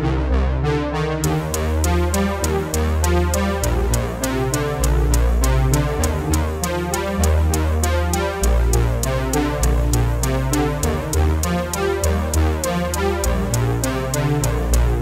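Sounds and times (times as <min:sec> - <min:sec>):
deep bass line: 0:00.0 - 0:15.0
music with steady beat: 0:01.2 - 0:15.0.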